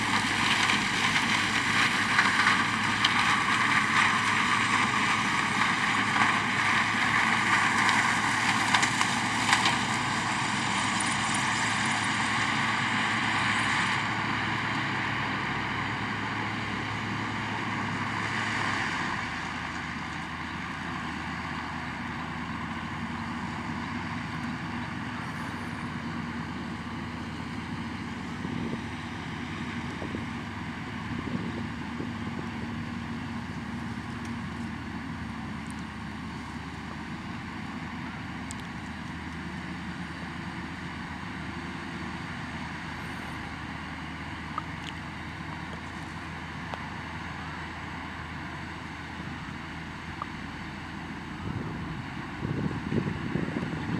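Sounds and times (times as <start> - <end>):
harvester engine drone: 0.0 - 53.9.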